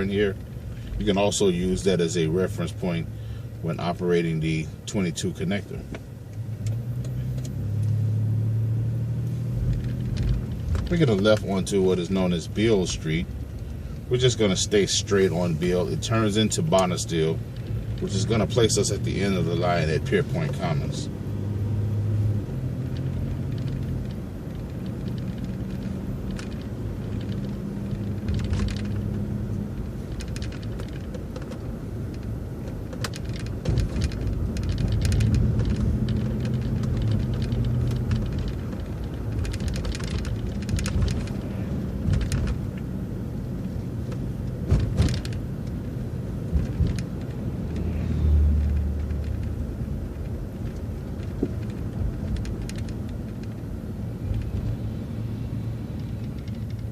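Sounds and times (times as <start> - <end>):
bus engine and road rumble: 0.0 - 56.9
sharp rattles and clicks: 9.2 - 21.1, 22.1 - 56.9.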